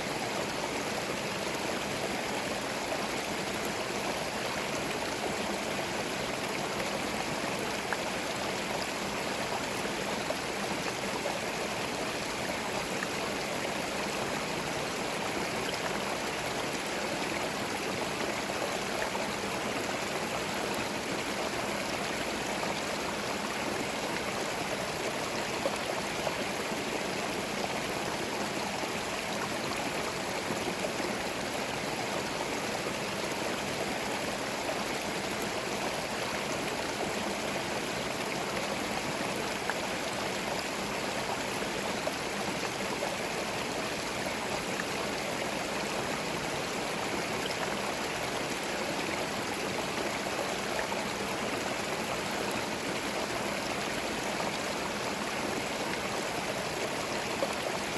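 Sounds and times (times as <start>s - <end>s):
stream flowing over stones: 0.0s - 57.9s.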